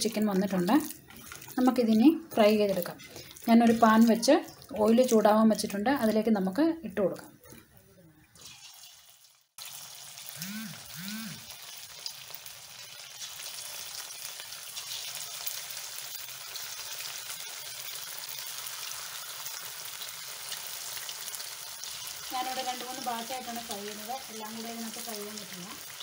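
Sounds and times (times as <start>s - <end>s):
chicken deep-frying in oil: 0.0s - 6.7s, 8.4s - 26.0s
oil bubbling: 0.0s - 26.0s.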